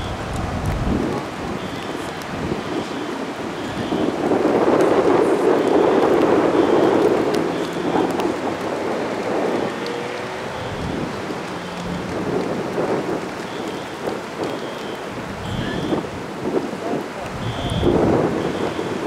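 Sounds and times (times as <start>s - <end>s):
heavy rain pouring: 0.0s - 19.0s
thunder rumble: 0.0s - 19.0s.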